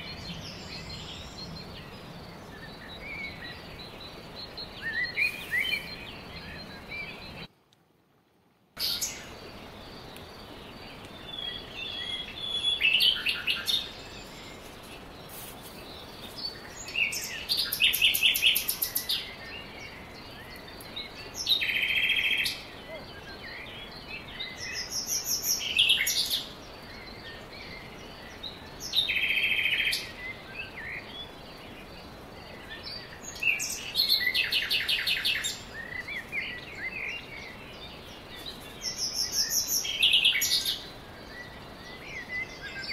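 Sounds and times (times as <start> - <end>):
birds singing: 0.0 - 7.5, 8.8 - 42.9
background hiss: 0.0 - 42.9.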